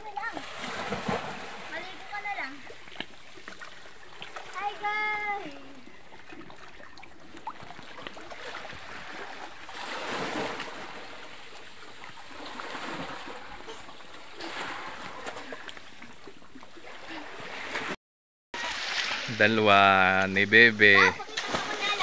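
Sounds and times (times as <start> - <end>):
small waves lapping: 0.0 - 18.0, 18.6 - 22.0.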